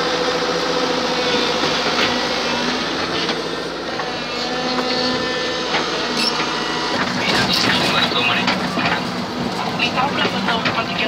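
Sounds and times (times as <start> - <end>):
hydraulic whine: 0.0 - 9.5
excavator engine and hydraulics: 0.0 - 11.0.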